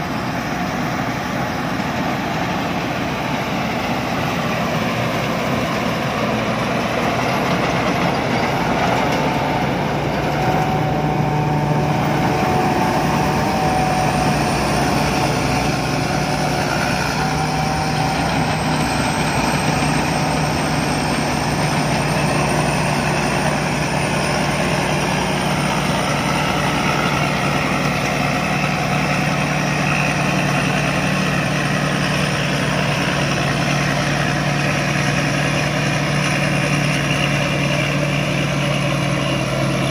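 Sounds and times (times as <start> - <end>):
combine harvester machinery drone: 0.0 - 39.9.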